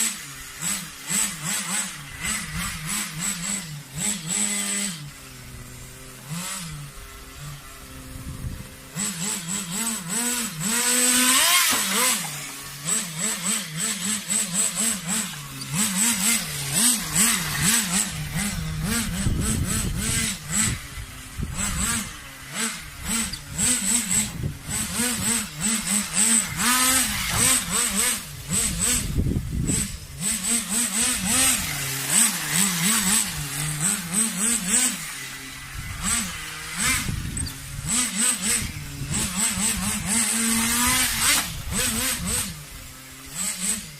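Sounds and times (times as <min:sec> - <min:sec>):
rc car engine revving: 0:00.0 - 0:43.9.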